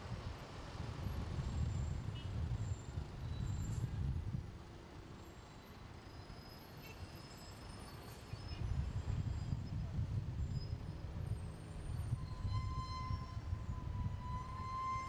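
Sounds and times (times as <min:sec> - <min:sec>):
bus and cars rumbling: 0:00.0 - 0:15.0.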